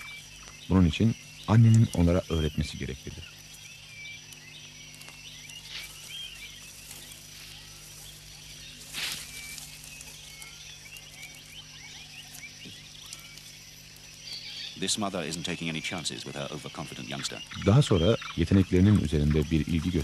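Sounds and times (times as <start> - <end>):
high chirping animal calls: 0.0 - 20.0
steady low hum: 0.0 - 20.0.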